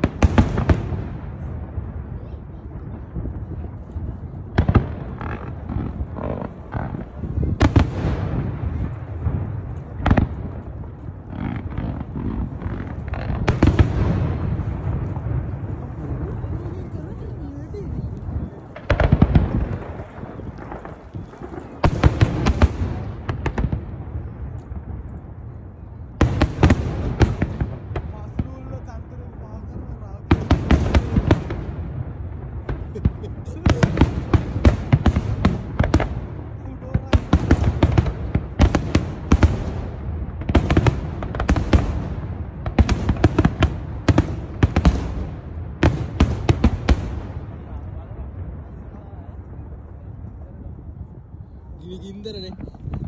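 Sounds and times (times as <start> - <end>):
distant explosions rumbling: 0.0 - 53.0
fireworks bangs and crackling: 0.0 - 53.0.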